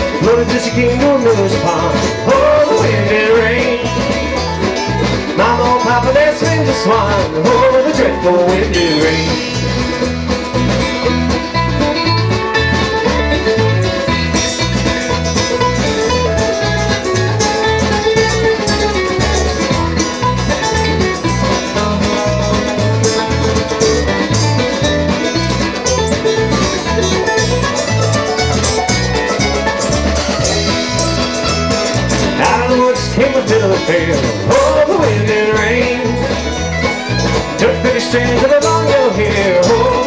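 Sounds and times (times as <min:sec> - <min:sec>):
bluegrass band playing: 0:00.0 - 0:40.0.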